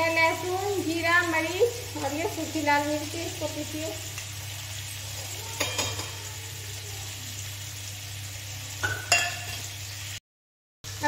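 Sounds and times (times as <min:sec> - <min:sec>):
potatoes sizzling in oil: 0:00.0 - 0:10.2.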